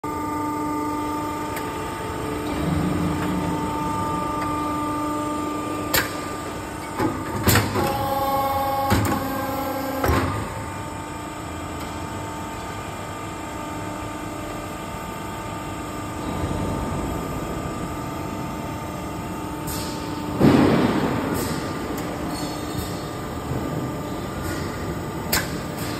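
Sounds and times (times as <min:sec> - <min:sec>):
roll forming machine humming: 0:00.1 - 0:25.9.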